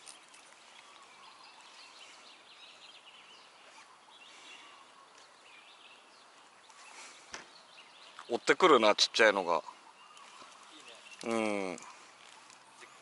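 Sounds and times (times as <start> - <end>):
bird chirps: 0.0 - 13.0
soft outdoor hiss: 0.0 - 13.0.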